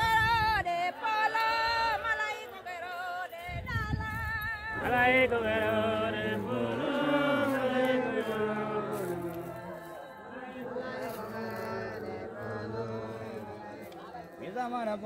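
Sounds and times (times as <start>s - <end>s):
group singing a chant: 0.0s - 3.4s, 4.4s - 15.0s.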